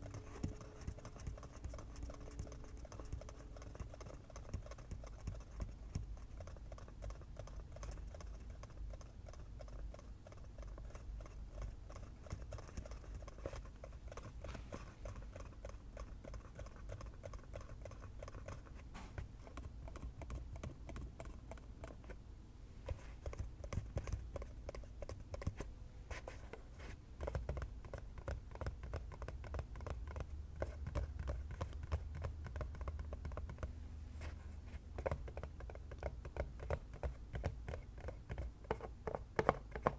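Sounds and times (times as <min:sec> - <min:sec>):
fingers tapping on object: 0:00.0 - 0:22.2, 0:22.9 - 0:25.7, 0:27.2 - 0:33.8, 0:34.9 - 0:39.9.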